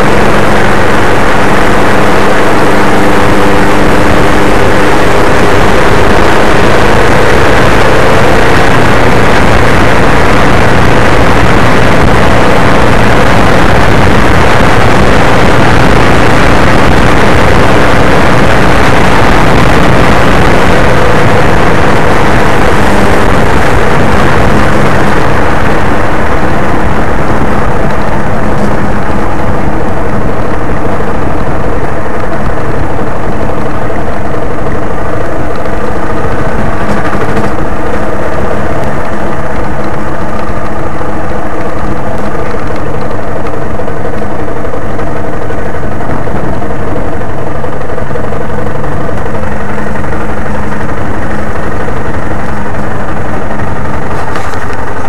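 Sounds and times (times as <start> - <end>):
loud wind rush: 0.0 - 55.0
vehicle engine cruising: 0.0 - 55.0.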